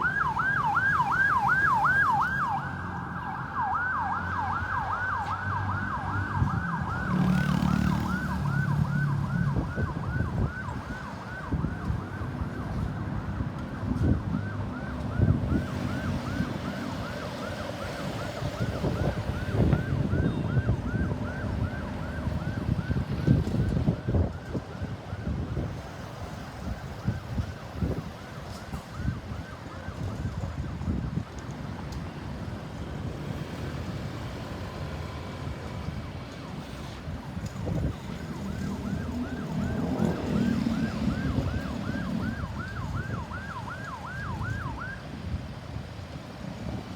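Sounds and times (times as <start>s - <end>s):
ambulance siren yelping: 0.0s - 32.5s, 33.3s - 45.4s
road traffic rumble: 0.0s - 46.9s.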